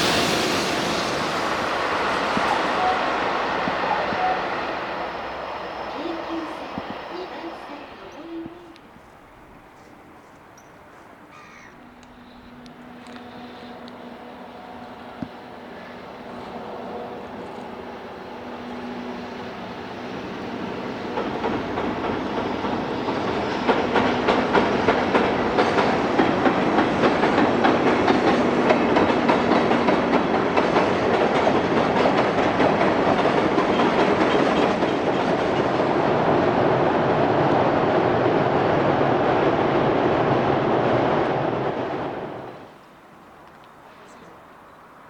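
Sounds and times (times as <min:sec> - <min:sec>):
train wheels clacking over rails: 0:00.0 - 0:10.8, 0:11.7 - 0:42.9.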